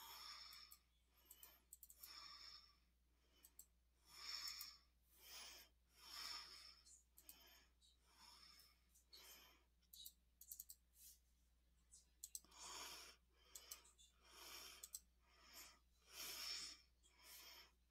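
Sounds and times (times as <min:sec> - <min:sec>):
faint breathing: 0:00.0 - 0:10.0, 0:12.3 - 0:17.9.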